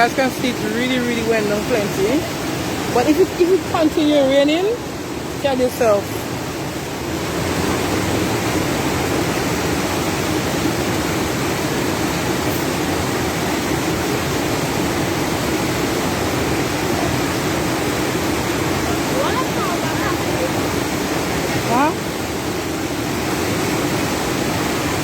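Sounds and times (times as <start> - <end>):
floodwater rushing across road: 0.0 - 25.0.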